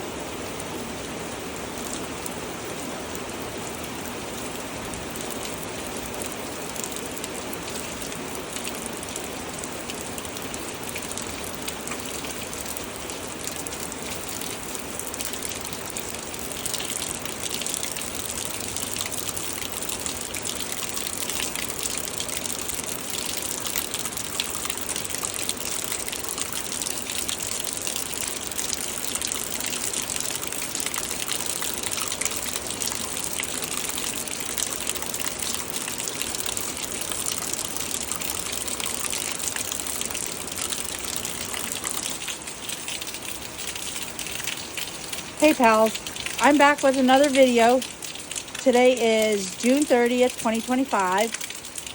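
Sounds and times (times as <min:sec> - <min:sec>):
heavy rain pouring: 0:00.0 - 0:51.9.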